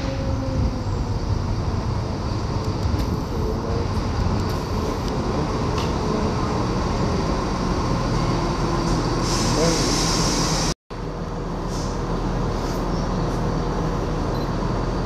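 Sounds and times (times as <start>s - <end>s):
diesel train rumbling slowly: 0.0s - 15.0s.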